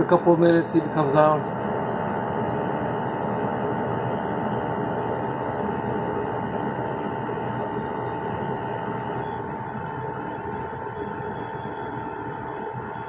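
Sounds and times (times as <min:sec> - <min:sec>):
constant whine: 0:00.0 - 0:13.0.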